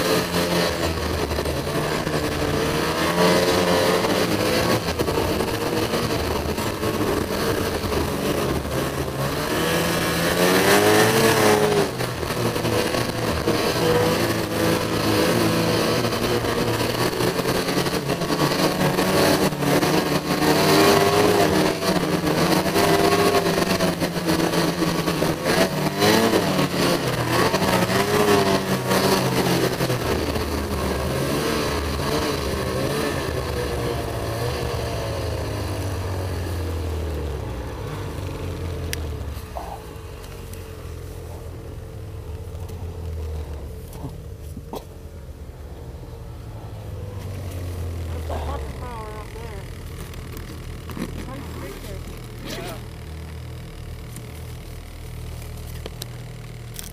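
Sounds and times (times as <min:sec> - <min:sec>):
snowmobile engine revving: 0:00.0 - 0:56.9.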